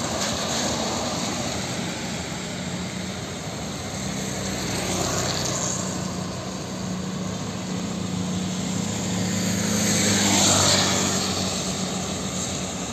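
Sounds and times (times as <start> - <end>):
traffic on wet street: 0.0 - 12.9
vehicle passing close: 0.0 - 12.9.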